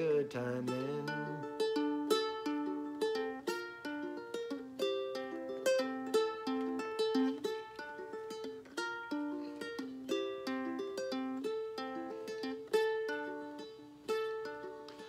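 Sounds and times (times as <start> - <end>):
ukulele picking single notes: 0.0 - 15.0.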